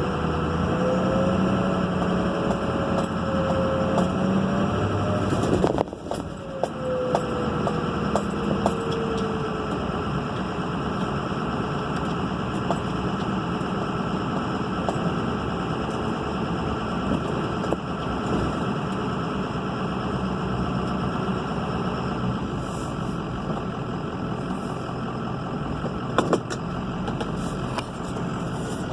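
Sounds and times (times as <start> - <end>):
turbocharged engine running: 0.0 - 28.9.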